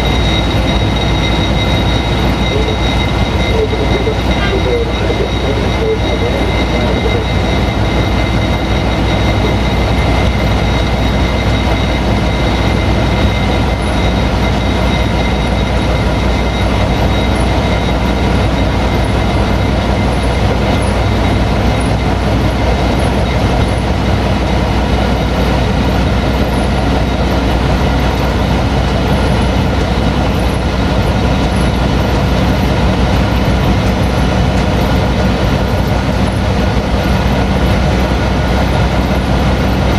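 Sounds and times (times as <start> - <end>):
diesel engine drone: 0.0 - 39.9
wheel and rail noise: 0.0 - 39.9.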